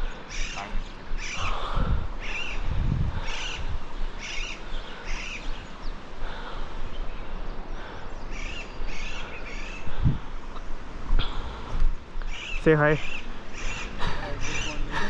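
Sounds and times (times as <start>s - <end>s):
bird calling: 0.0s - 15.0s.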